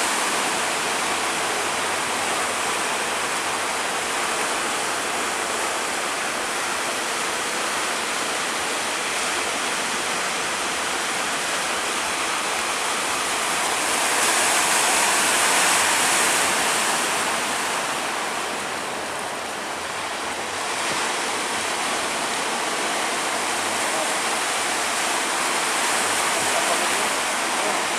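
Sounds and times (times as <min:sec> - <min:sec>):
sea water rushing against ship: 0:00.0 - 0:27.9.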